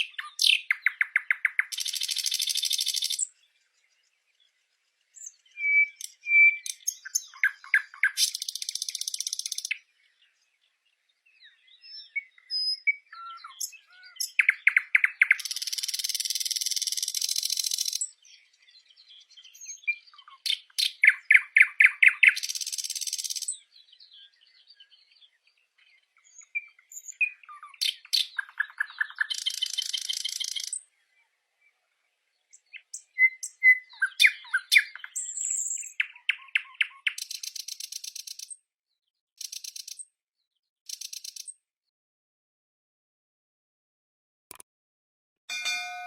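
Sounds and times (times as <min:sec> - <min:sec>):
songbirds calling and singing: 0:00.0 - 0:41.7.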